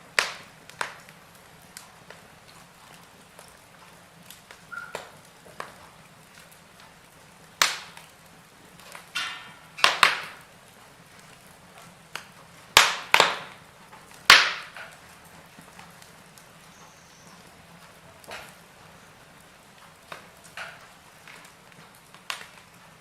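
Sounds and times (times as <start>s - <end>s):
burning logs popping: 0.0s - 23.0s
low hiss of fire: 0.0s - 23.0s
wood fire crackling: 0.0s - 23.0s.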